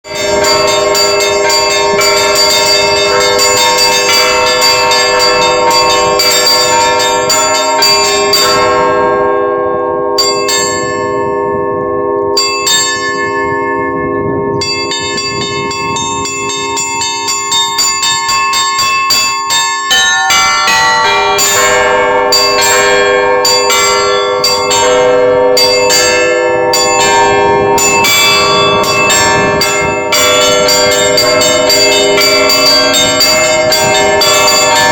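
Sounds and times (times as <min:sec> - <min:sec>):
small high bells striking: 0:00.0 - 0:09.0, 0:10.2 - 0:34.9
large bells ringing: 0:00.0 - 0:34.9.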